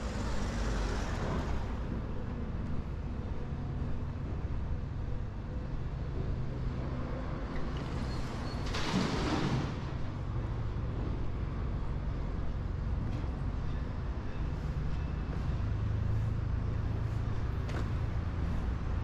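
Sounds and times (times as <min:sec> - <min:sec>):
vehicle engines rumbling: 0:00.0 - 0:19.0.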